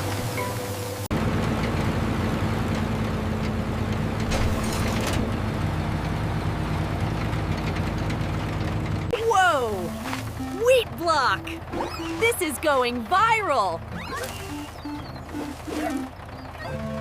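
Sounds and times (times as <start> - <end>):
farm machinery engine humming: 0.0 - 17.0.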